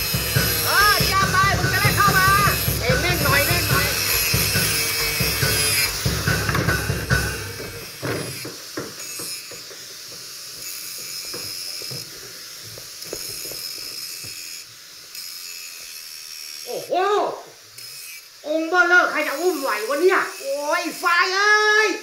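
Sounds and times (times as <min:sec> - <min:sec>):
angle grinder cutting metal: 0:00.0 - 0:22.0.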